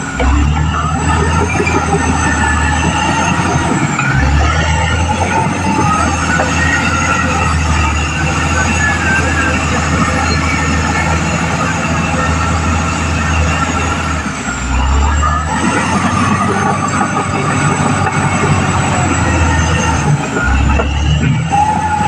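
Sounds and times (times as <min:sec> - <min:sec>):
diesel engine droning: 0:00.0 - 0:22.0
squealing steel tracks: 0:00.0 - 0:22.0.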